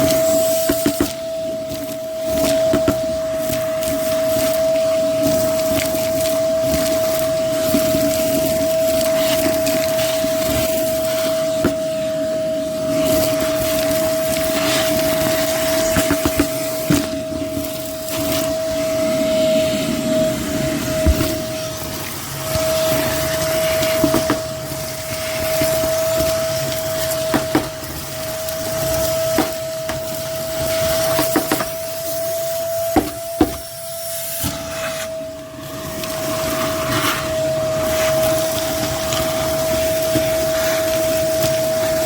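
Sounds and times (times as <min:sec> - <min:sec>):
debris rattling in vacuum hose: 0:00.0 - 0:42.0
shop vacuum motor whine: 0:00.0 - 0:42.0.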